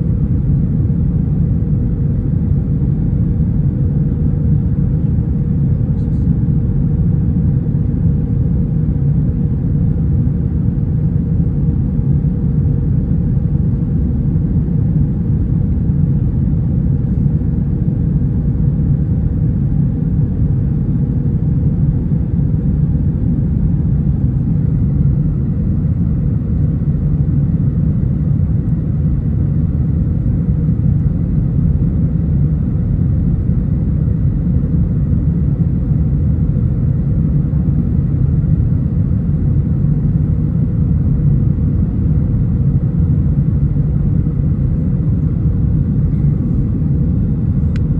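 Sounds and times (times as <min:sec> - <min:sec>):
airplane cabin engine roar: 0:00.0 - 0:47.9
faint steady hum: 0:00.0 - 0:47.9.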